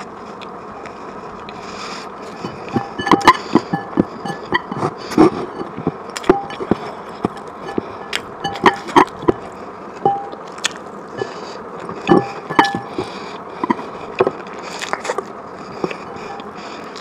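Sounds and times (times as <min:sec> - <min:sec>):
wet chewing and biting: 0:00.3 - 0:17.0
crunches: 0:01.4 - 0:17.0
scrapes: 0:01.6 - 0:10.4, 0:11.2 - 0:17.0.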